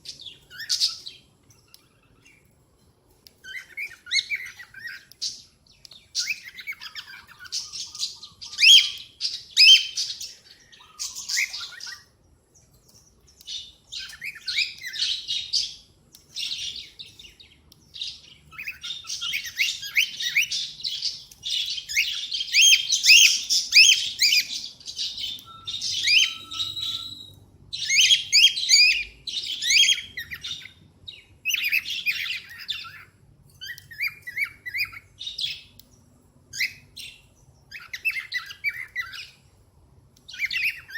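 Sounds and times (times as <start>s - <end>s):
cockatiels chirping and chattering: 0.0s - 2.5s, 3.3s - 12.2s, 12.9s - 35.8s, 36.5s - 39.4s, 40.3s - 40.9s.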